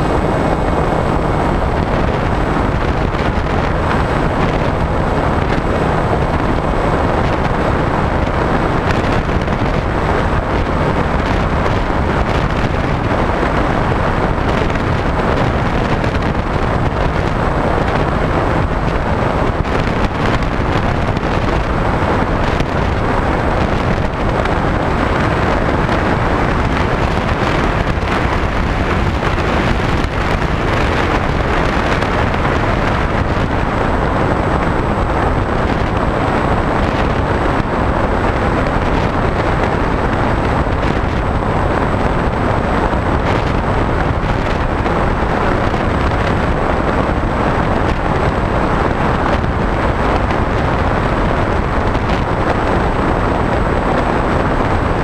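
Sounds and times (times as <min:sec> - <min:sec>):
electric motor and propeller: 0:00.0 - 0:55.0
wind buffeting microphone: 0:00.0 - 0:55.0.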